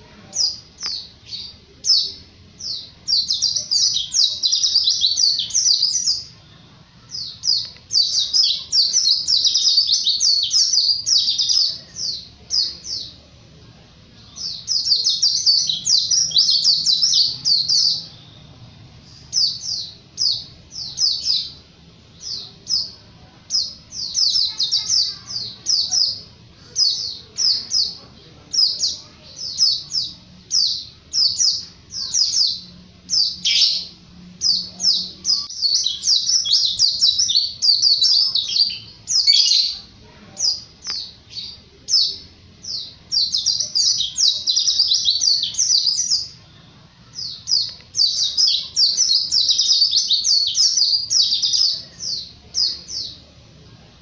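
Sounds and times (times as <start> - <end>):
bird twittering song: 0.0 - 13.2, 14.2 - 53.3.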